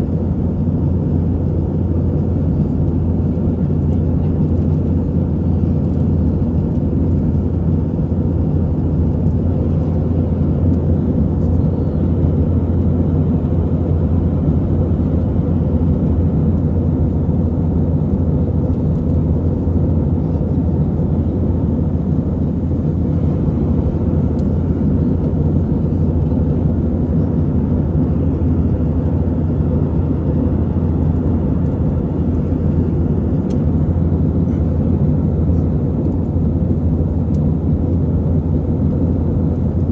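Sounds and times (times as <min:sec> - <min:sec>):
jet engine drone in aircraft cabin: 0:00.0 - 0:39.9.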